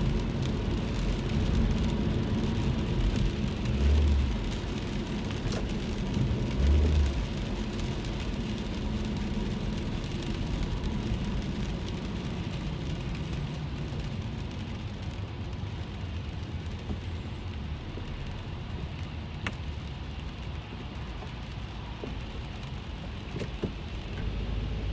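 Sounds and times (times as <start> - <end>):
low rumble of car and road: 0.0 - 24.9
rain falling on a car: 0.0 - 24.9.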